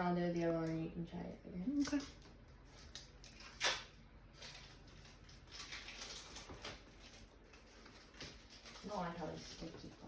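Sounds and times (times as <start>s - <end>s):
plastic wrappers crinkling: 1.7s - 10.0s
sharp plastic crackle: 1.7s - 10.0s.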